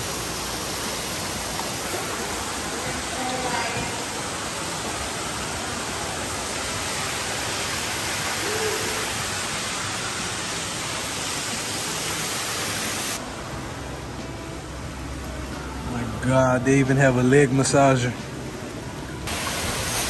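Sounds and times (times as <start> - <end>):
hot tub jets churning water: 0.0 - 20.0.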